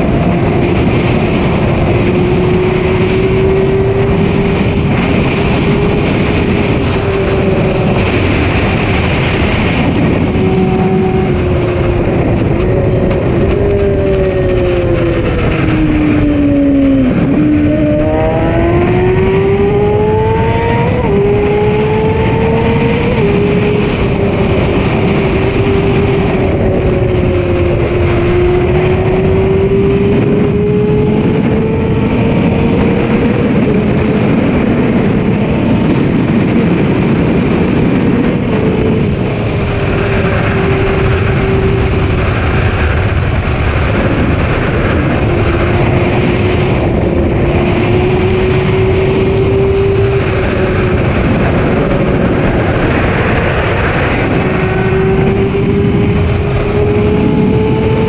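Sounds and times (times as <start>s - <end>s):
motorcycle engine accelerating: 0.0s - 58.0s
wind noise on microphone: 0.0s - 58.0s.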